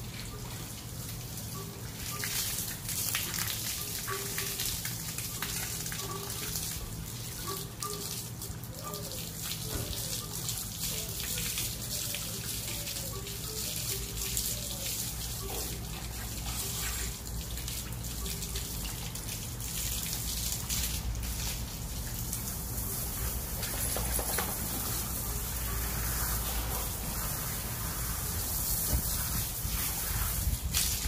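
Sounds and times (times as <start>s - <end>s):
hose water spraying on fur: 0.0s - 31.0s.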